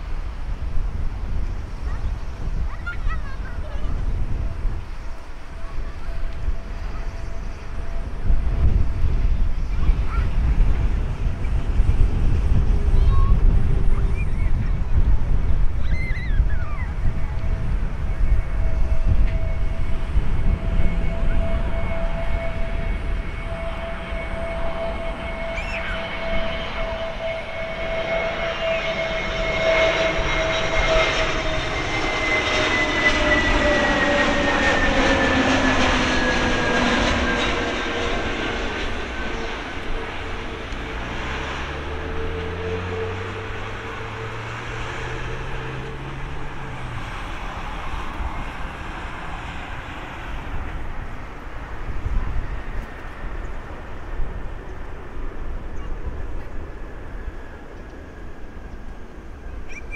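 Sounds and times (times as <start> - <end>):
jet engines whining: 0.0 - 59.9
low hum rising in pitch: 3.3 - 56.2.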